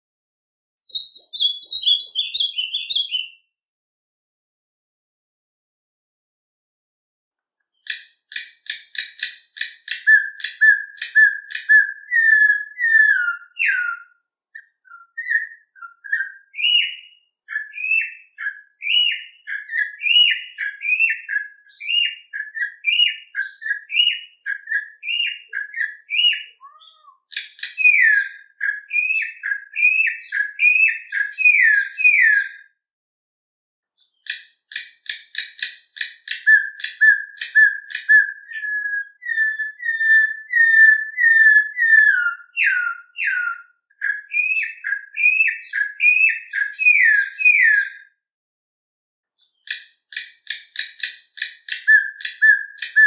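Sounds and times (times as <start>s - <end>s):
songbird singing: 0.9s - 3.6s, 7.6s - 32.8s, 34.0s - 48.2s, 49.4s - 53.0s.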